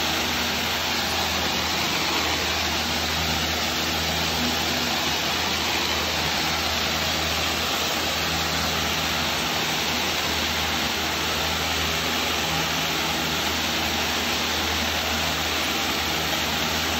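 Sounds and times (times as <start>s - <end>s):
pressurised water jets rushing: 0.0s - 16.9s.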